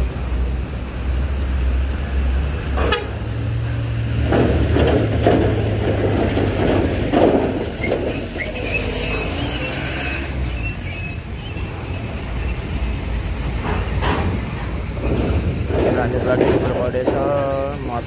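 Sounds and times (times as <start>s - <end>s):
bus engine humming: 0.0s - 18.0s
wheels clanking over steel grating: 2.7s - 18.0s.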